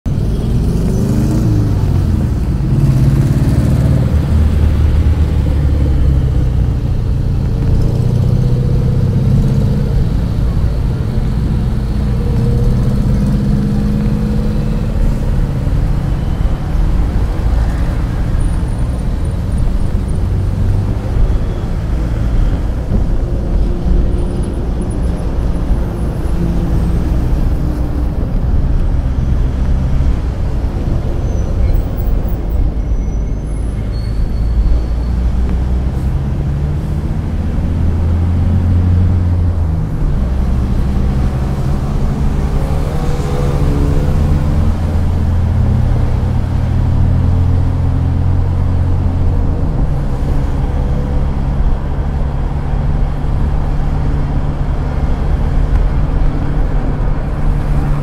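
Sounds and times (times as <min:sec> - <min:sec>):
road noise: 0:00.0 - 0:58.0
vehicle engine rumble: 0:00.0 - 0:58.0.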